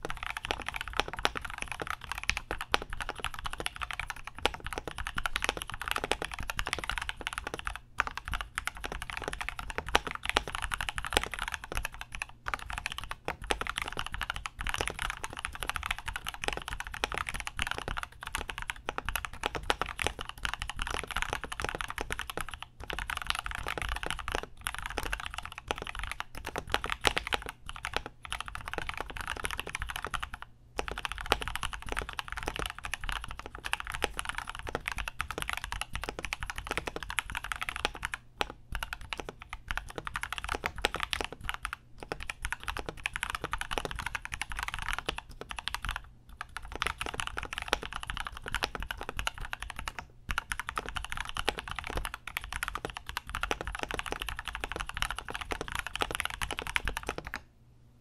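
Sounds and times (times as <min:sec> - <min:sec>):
mechanical keyboard typing: 0:00.0 - 0:57.4.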